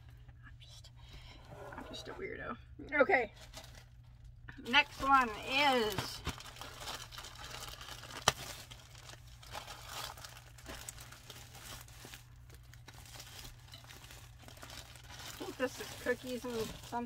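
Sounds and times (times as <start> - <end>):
plastic bag crinkling: 3.3 - 17.0.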